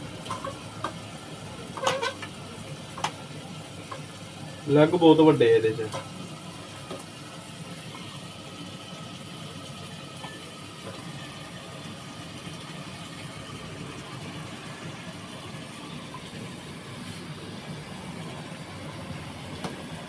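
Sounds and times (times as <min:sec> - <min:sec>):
gas burner flame rumbling: 0:00.0 - 0:20.0.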